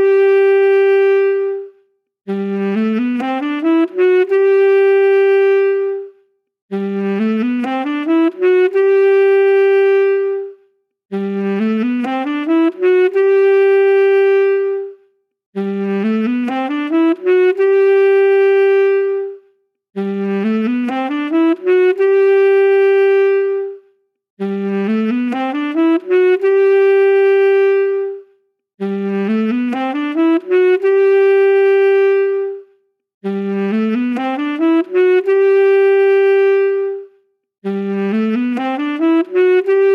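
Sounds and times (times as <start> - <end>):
solo saxophone phrase: 0.0 - 39.9.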